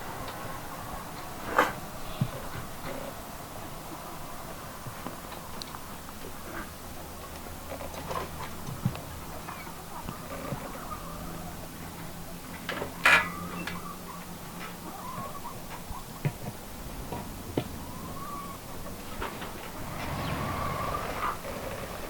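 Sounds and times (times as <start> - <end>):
poultry calling: 0.0 - 12.4, 13.0 - 16.4, 17.4 - 22.0.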